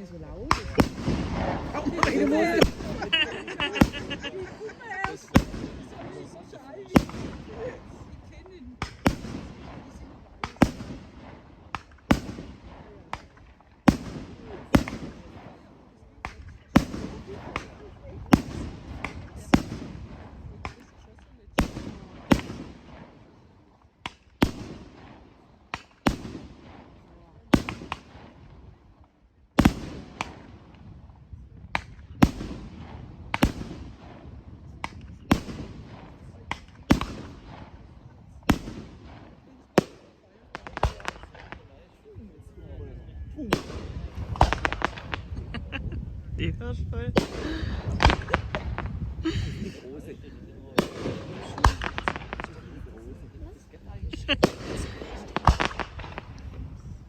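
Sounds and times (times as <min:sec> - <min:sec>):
fireworks bangs echoing: 0:00.0 - 0:41.9, 0:43.5 - 0:46.0, 0:47.1 - 0:50.0, 0:50.6 - 0:56.9.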